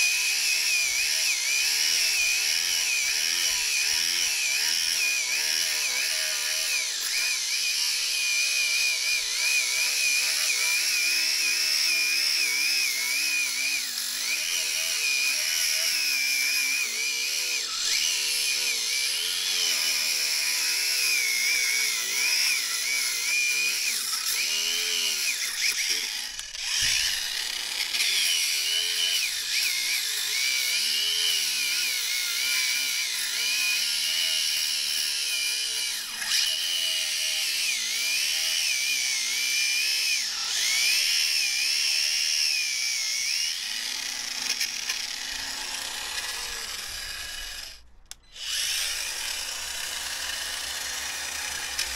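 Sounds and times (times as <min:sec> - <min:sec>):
angle grinder cutting tyre: 0:00.0 - 0:51.9.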